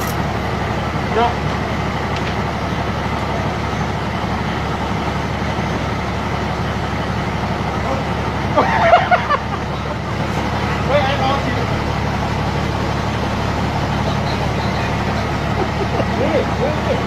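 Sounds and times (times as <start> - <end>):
passenger train running: 0.0 - 17.0.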